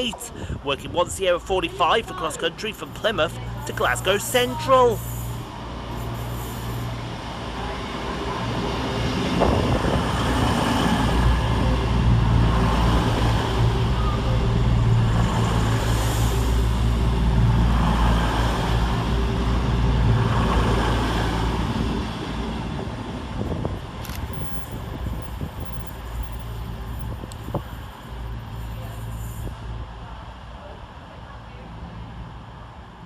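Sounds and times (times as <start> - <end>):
train diesel engines humming: 0.0 - 33.0
train wheels on rails: 2.8 - 29.7.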